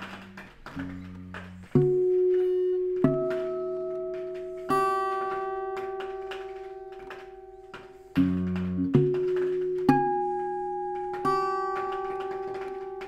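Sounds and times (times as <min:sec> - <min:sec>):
acoustic guitar played slowly: 0:00.0 - 0:13.0.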